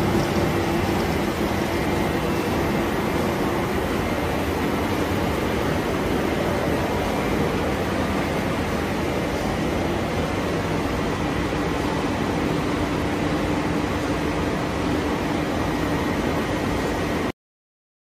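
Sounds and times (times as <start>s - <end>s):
machinery hum and whir: 0.0s - 17.3s.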